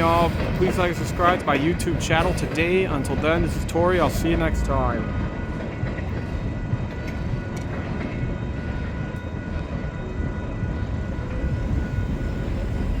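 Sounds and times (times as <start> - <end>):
freight train rumbling by: 0.0 - 13.0.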